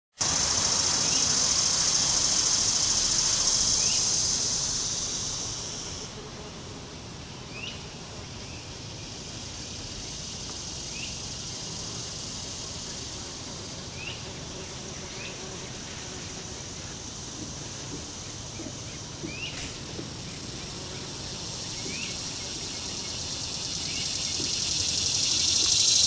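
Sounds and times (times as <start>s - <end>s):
insect chorus drone: 0.2s - 26.0s.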